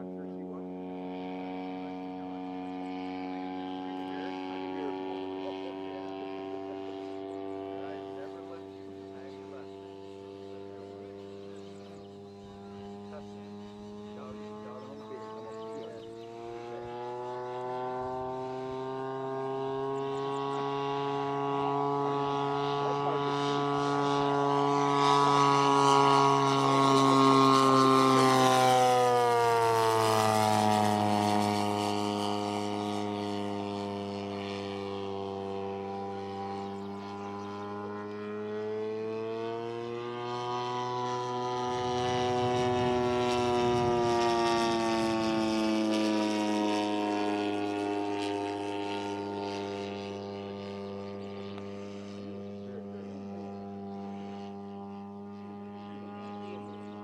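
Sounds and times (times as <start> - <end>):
model plane engine drone: 0.0 - 57.0.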